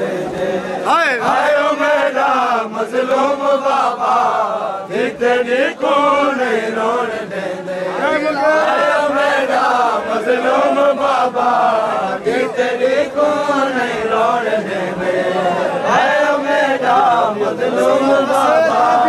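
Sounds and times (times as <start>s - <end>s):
group of men chanting: 0.0s - 19.0s.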